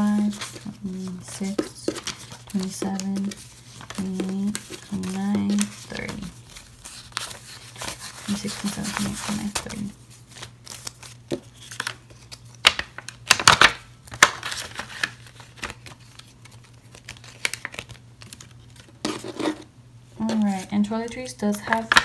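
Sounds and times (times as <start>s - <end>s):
banknotes rustling and snapping: 0.0s - 19.5s, 20.2s - 22.0s
plastic sleeve crinkling: 0.0s - 19.5s.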